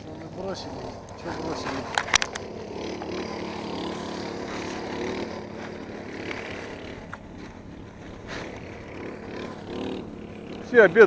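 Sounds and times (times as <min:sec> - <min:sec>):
snowmobile engine running: 0:00.0 - 0:11.0.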